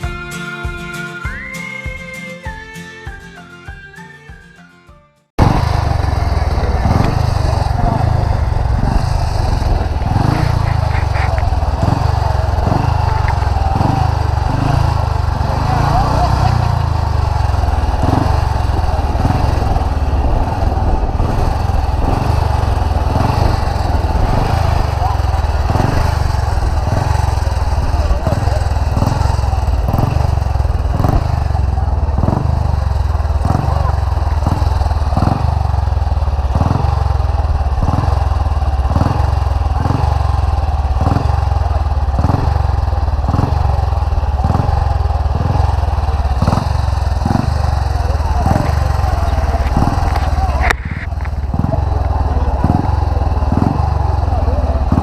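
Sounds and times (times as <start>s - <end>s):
motorcycle engine running: 5.4s - 55.0s.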